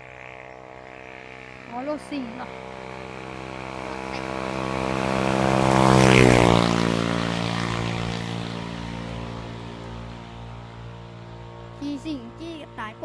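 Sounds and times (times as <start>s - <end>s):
vehicle driving past: 0.0s - 13.0s.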